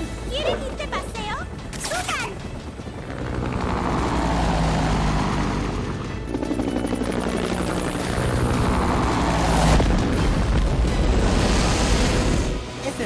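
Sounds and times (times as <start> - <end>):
cartoon helicopter rotor chopping: 0.0 - 12.6
background music: 0.0 - 13.0.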